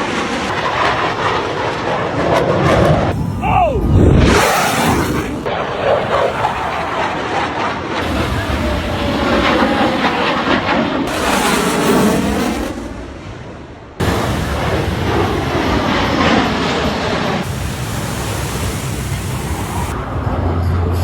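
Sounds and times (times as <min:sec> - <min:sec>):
jet aircraft roaring past: 0:00.0 - 0:21.0.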